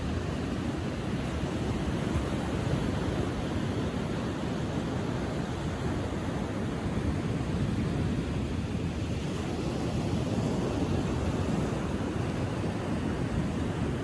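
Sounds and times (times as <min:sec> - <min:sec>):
surf washing onto beach: 0:00.0 - 0:14.0.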